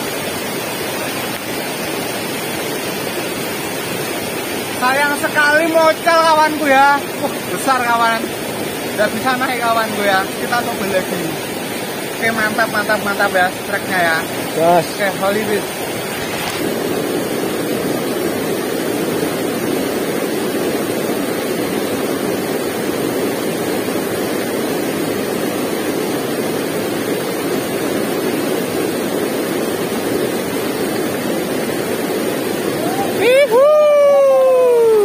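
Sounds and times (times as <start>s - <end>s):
water rushing between boulders: 0.0s - 35.0s.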